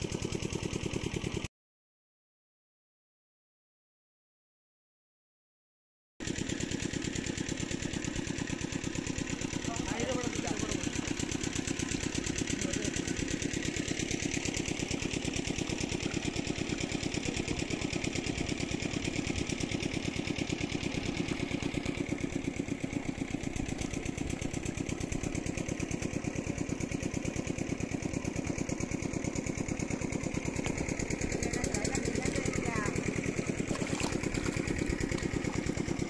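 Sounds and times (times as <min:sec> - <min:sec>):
small engine running: 0:00.0 - 0:01.5, 0:06.2 - 0:36.0.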